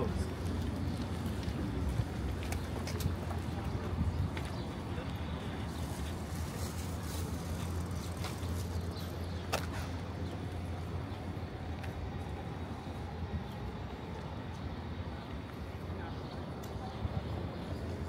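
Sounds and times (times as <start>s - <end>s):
low rumble of vehicles: 0.0s - 18.0s.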